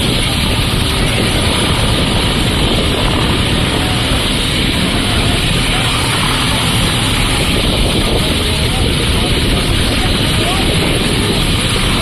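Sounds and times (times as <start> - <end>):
helicopter idling: 0.0 - 12.0.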